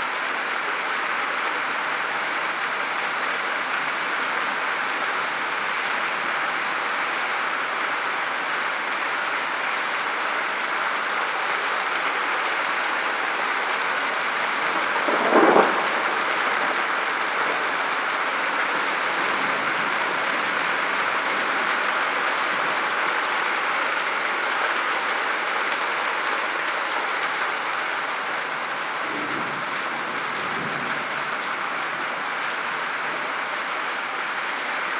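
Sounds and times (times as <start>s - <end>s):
hail and heavy rain pelting: 0.0s - 34.9s.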